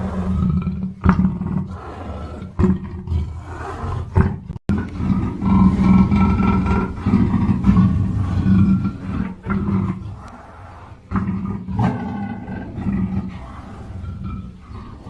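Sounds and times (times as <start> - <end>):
panther growling: 0.0 - 15.0.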